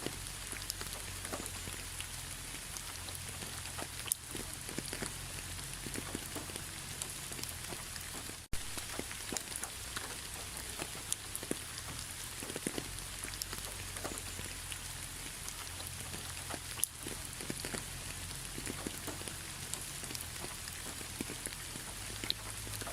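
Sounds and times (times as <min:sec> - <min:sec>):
rain drops ticking on surface: 0:00.0 - 0:22.9.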